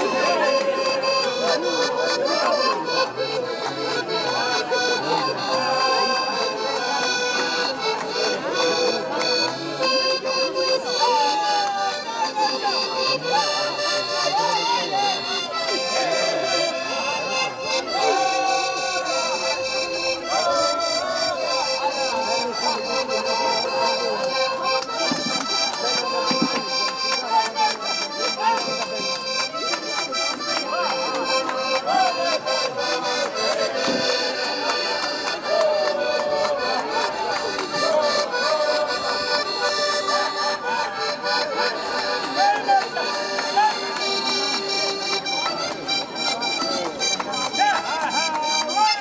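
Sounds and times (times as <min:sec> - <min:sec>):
accordion folk melody: 0:00.0 - 0:49.0.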